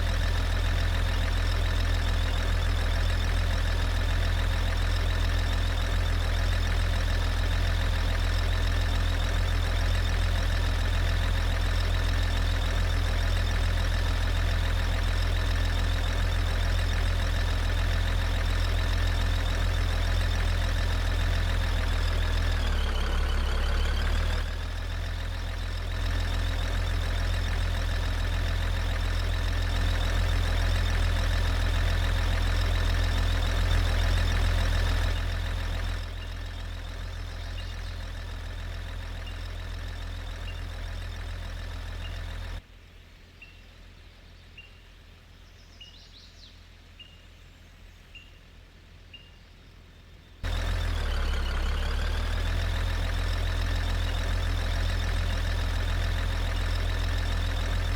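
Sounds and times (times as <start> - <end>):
vehicle engine rumbling: 0.0 - 42.7, 50.4 - 57.9.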